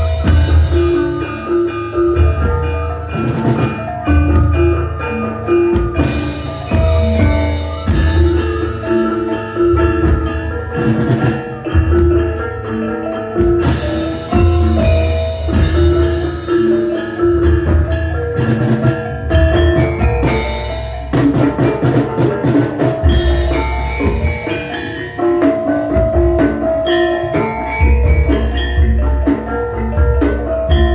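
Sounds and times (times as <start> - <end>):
drum strokes: 0.0 - 30.9
metallophones ringing: 0.0 - 30.9.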